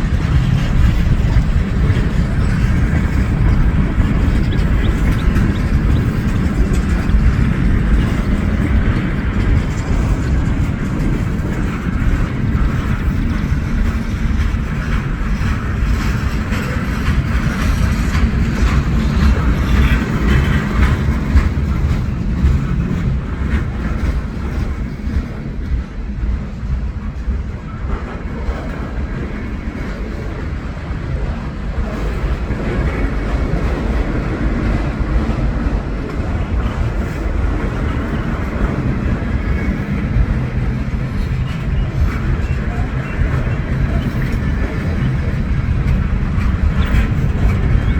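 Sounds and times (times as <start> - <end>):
wheels clicking: 0.0 - 25.5, 31.2 - 47.9
rail cars rumbling: 0.0 - 47.9.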